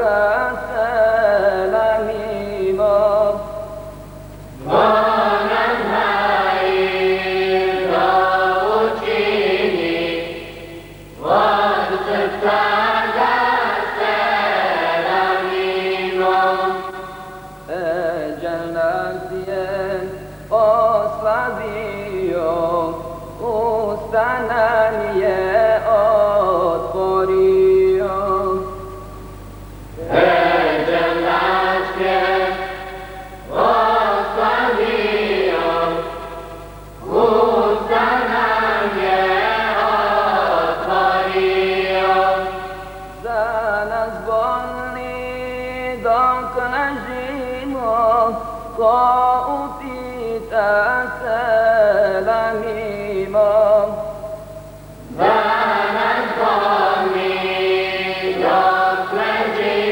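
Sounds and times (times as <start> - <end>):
choir singing a devotional hymn: 0.0 - 3.7, 4.5 - 28.8, 29.9 - 59.9.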